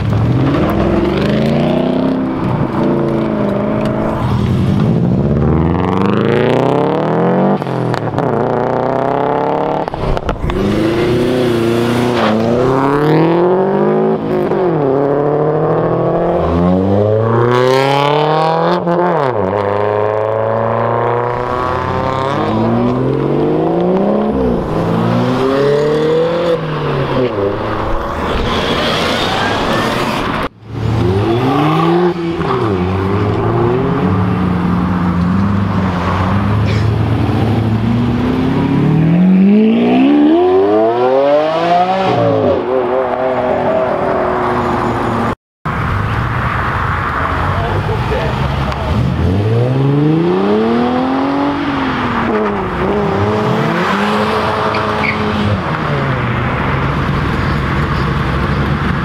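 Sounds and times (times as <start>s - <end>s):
cars accelerating hard: 0.0s - 59.0s.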